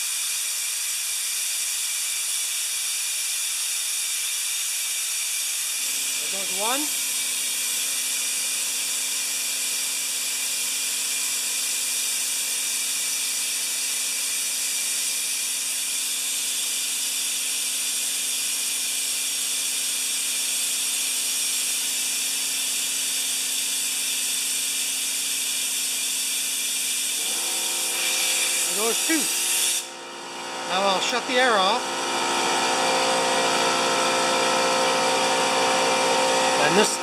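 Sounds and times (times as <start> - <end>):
compressed air hissing from hose: 0.0 - 29.9
air compressor humming: 0.0 - 37.0.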